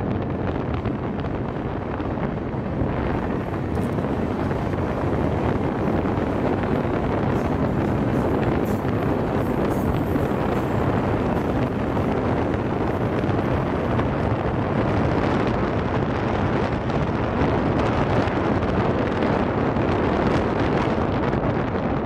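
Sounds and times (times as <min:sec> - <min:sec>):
train coaches rumbling on rails: 0:00.0 - 0:22.0
wind buffeting microphone: 0:00.0 - 0:22.0.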